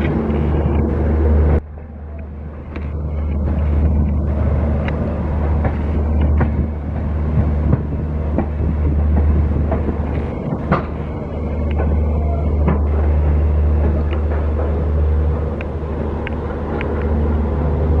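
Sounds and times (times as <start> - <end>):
steady low drone: 0.0 - 18.0
train wheels rumbling over track: 0.0 - 18.0.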